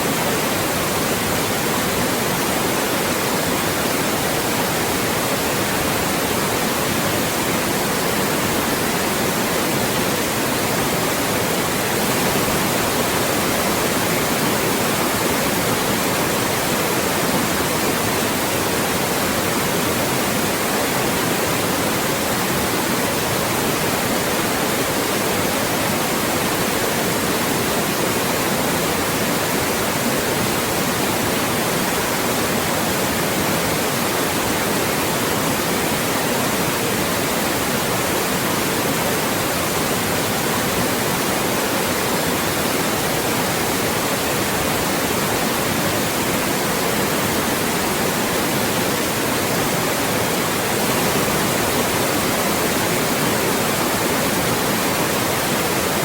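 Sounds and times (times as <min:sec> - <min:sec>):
loud white noise: 0:00.0 - 0:56.0.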